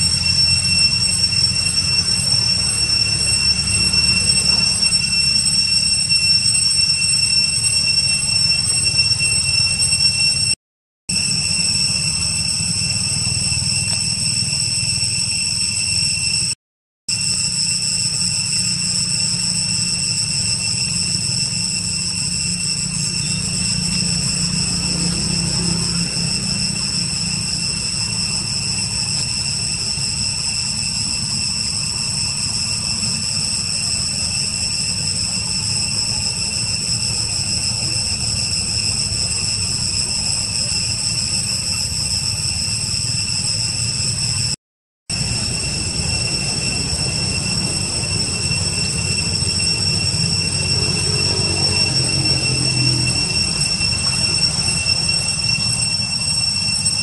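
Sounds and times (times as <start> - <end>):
high-pitched whine: 0.0 - 57.0.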